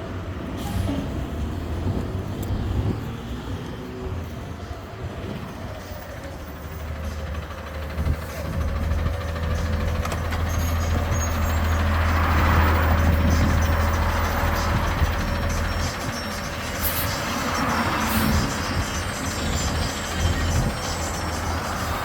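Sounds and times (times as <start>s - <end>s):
garbage truck engine humming: 0.0s - 22.0s.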